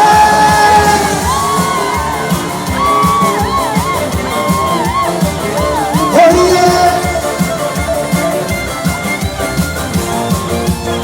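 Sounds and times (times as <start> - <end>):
crowd shouting and whooping: 0.0 - 8.9
drum beat: 0.0 - 11.0
high melody with vibrato: 0.0 - 11.0
live band playing: 0.0 - 11.0.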